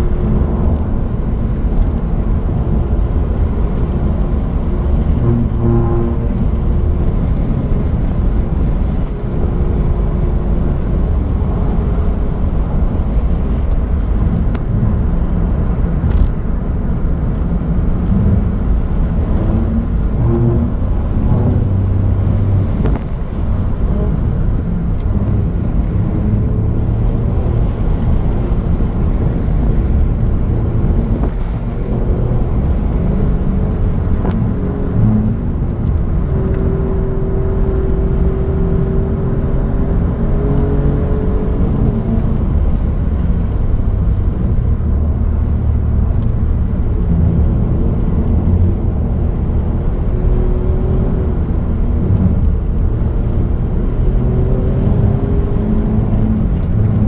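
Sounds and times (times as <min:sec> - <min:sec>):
car engine running: 0:00.0 - 0:57.0
road and tyre rumble: 0:00.0 - 0:57.0.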